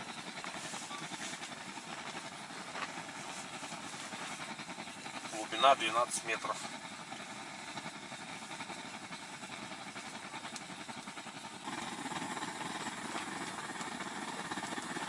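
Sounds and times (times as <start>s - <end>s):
blowtorch flame rushing: 0.0s - 15.0s.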